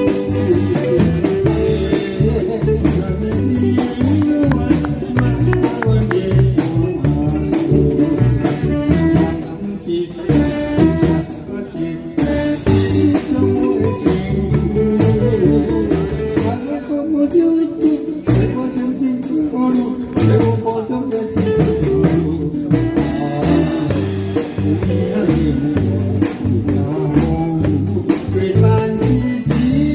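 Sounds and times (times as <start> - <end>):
steady drum beat: 0.0 - 17.2, 18.2 - 29.9
bass: 0.0 - 29.9
guitar: 0.0 - 29.9.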